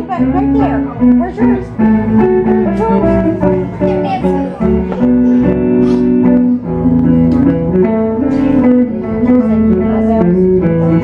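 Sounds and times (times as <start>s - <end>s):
country song with guitar and bass: 0.0s - 11.0s.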